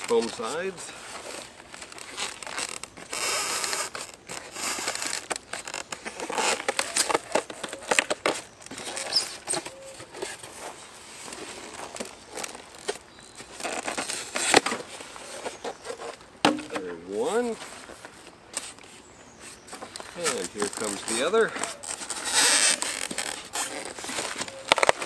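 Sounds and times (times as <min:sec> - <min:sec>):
foam scraping and crackling on plastic: 0:00.0 - 0:25.0.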